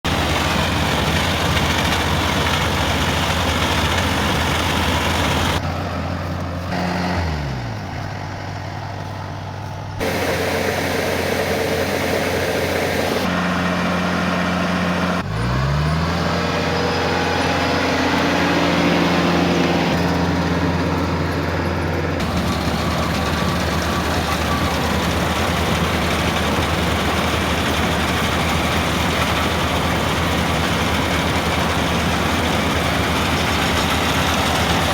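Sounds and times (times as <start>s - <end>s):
farm machine engine running: 0.0s - 34.9s.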